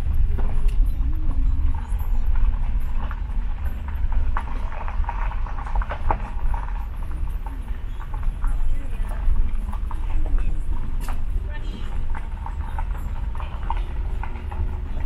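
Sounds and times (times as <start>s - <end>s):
road rumble inside car: 0.0s - 15.0s.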